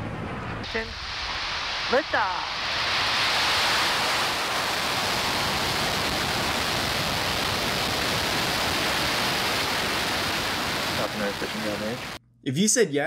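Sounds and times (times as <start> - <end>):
rocket engines roaring: 0.0 - 12.2.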